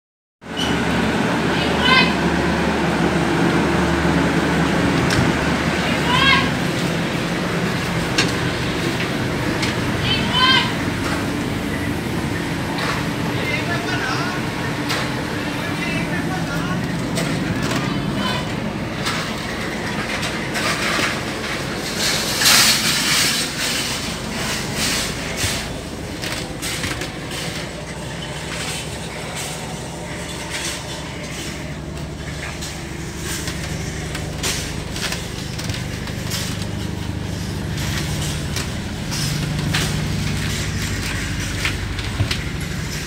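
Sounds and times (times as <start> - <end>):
train running rumble and hum: 0.5 - 43.0
train clicks and knocks: 4.9 - 43.0.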